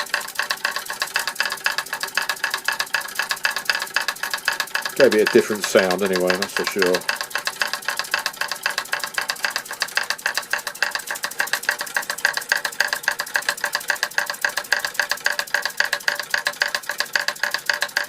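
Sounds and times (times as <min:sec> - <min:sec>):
toy steam hammers tapping: 0:00.0 - 0:18.0.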